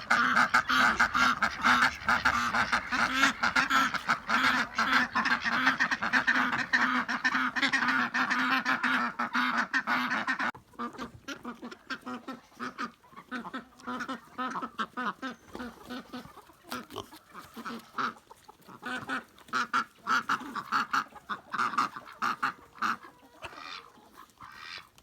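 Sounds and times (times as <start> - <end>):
ducks quacking: 0.0 - 25.0.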